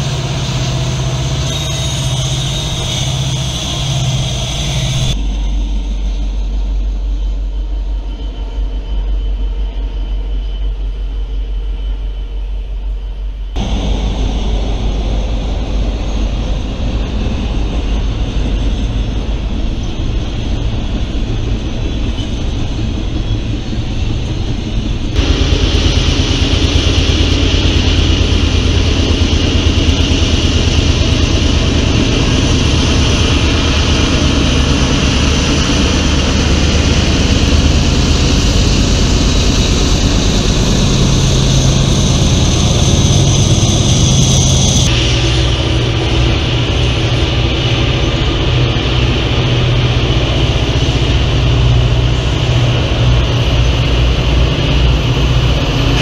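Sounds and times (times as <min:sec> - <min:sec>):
steady rumble: 0:00.0 - 0:10.8, 0:13.5 - 0:56.0
diesel locomotive engine: 0:00.0 - 0:56.0
train wheels rolling on rails: 0:00.0 - 0:56.0.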